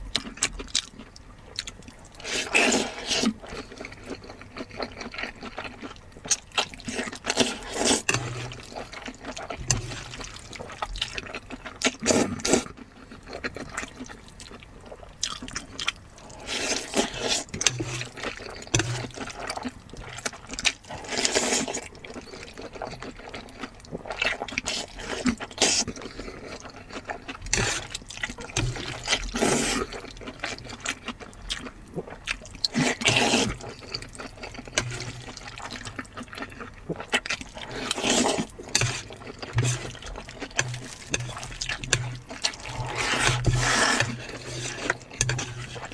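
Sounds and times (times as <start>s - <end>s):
person chewing and slurping: 0.1s - 45.9s.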